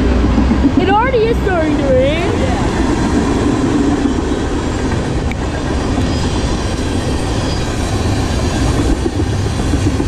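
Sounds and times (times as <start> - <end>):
steel wheels rolling on rails: 0.0 - 10.0.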